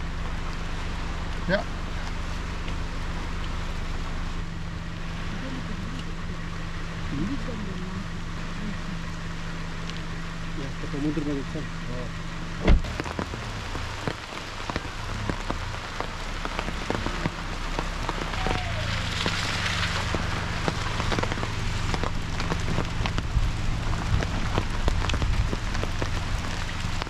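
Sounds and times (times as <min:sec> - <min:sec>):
rain falling: 0:00.0 - 0:27.0
raindrops striking close by: 0:00.0 - 0:27.0.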